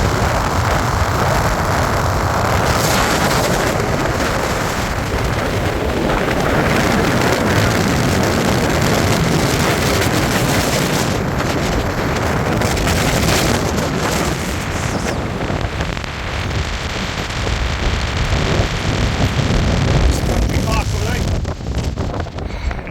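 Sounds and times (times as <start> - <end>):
gale wind buffeting microphone: 0.0 - 22.9.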